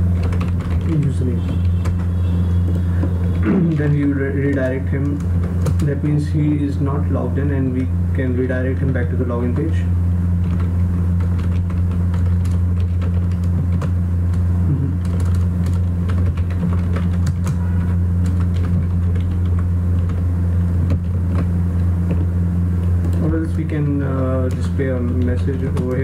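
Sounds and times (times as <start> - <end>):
loud steady low hum: 0.0 - 26.0.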